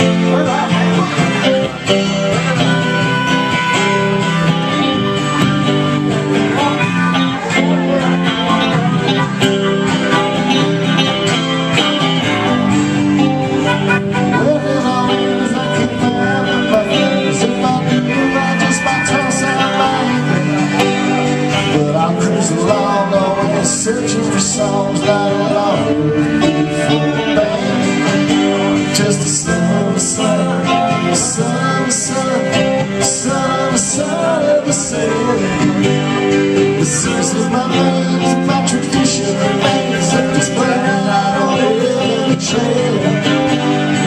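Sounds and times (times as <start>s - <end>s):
electric guitar: 0.0s - 44.0s
man singing: 0.0s - 44.0s
strummed acoustic guitar: 0.0s - 44.0s.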